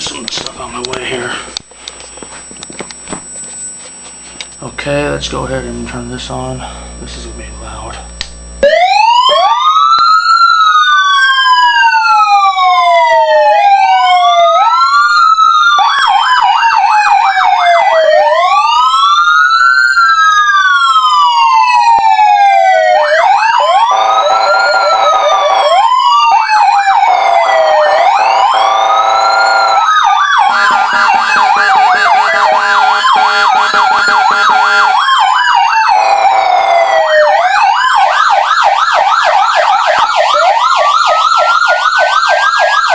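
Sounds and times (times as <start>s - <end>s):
siren wailing: 0.0s - 42.9s
siren yelping warble: 0.6s - 42.9s.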